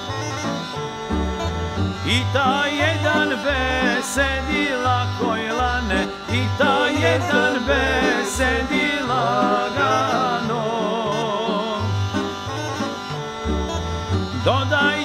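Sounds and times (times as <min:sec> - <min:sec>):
folk music instrumental: 0:00.0 - 0:15.0.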